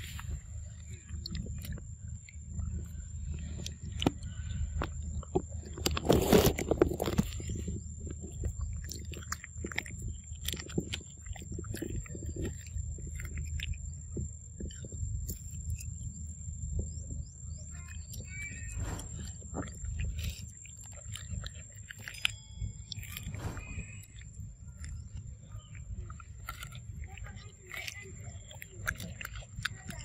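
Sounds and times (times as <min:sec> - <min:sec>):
low rumble: 0:00.0 - 0:30.0
monkey chewing and crunching corn: 0:00.0 - 0:30.0.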